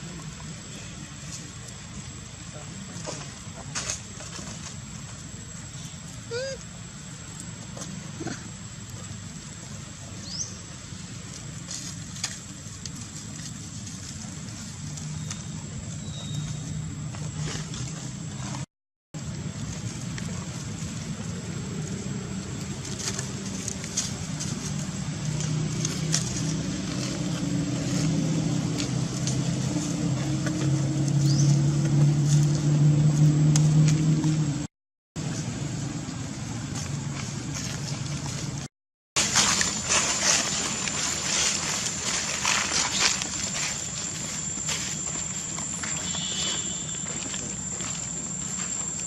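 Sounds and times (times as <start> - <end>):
vehicle engine running: 7.0 - 49.0.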